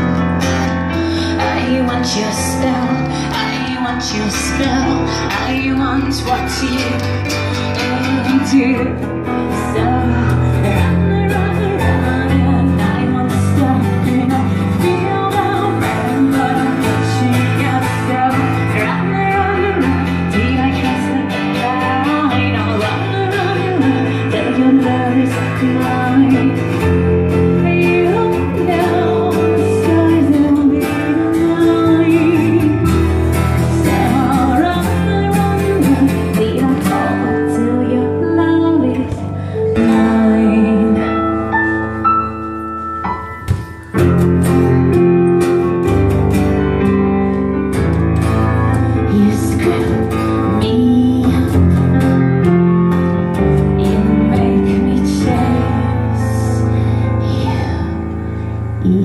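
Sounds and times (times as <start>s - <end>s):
person singing: 0.0s - 42.0s, 48.3s - 59.0s
acoustic guitar: 0.0s - 59.0s
sustained bass notes: 0.0s - 59.0s.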